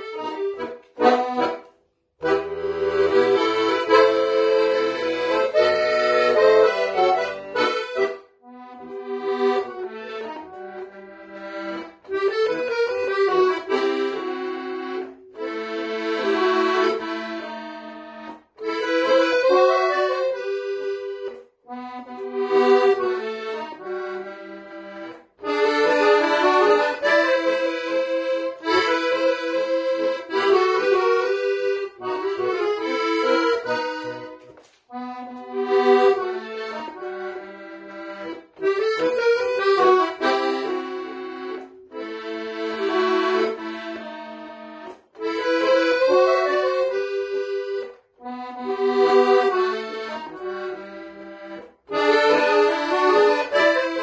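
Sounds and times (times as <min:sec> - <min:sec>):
accordion playing a tango: 0:00.0 - 0:54.0.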